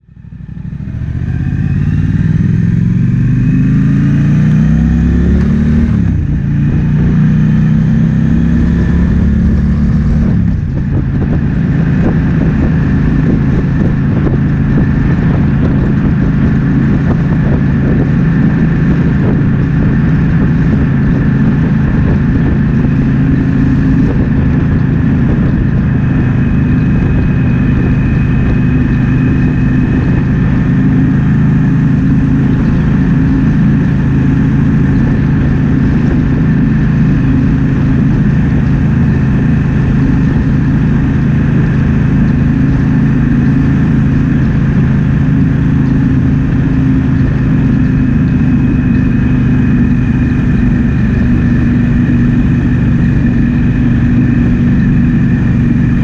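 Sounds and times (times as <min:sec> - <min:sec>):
motorcycle engine accelerating: 0:00.0 - 0:56.0
wind on microphone: 0:00.9 - 0:56.0.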